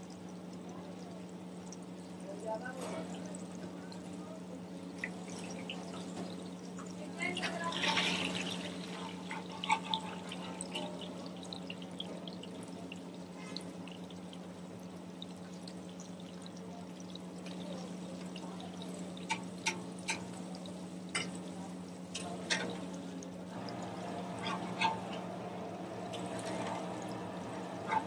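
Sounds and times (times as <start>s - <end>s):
food deep-frying in oil: 0.0s - 28.0s.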